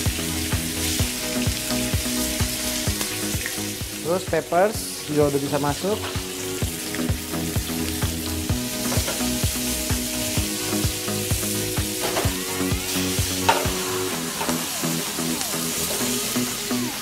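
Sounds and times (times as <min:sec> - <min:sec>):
background music with steady beat: 0:00.0 - 0:17.0
food sizzling in a frying pan: 0:00.0 - 0:17.0.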